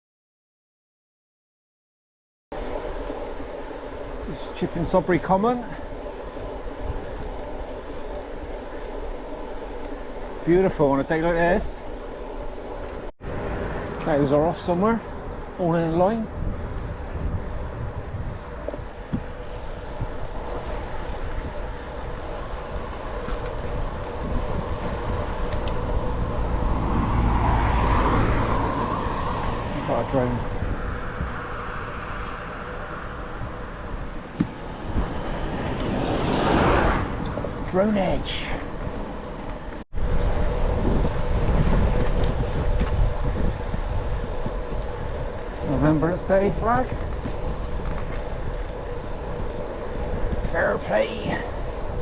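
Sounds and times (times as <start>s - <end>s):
road noise: 2.5s - 52.0s
wind rushing over microphone: 10.4s - 52.0s.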